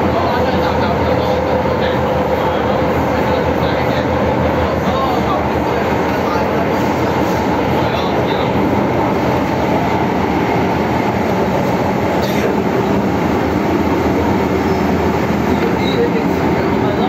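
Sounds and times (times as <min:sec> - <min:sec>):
train running through tunnel: 0:00.0 - 0:17.0.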